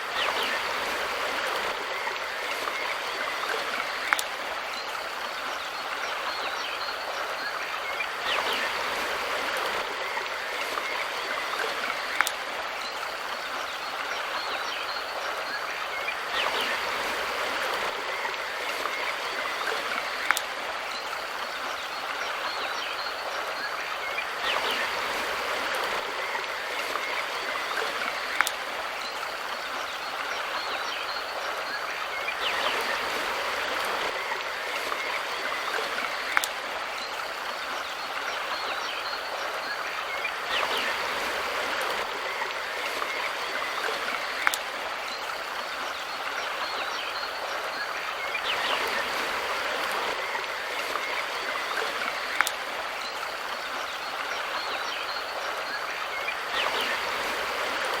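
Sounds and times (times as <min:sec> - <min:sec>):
stream rushing water: 0:00.0 - 0:58.0.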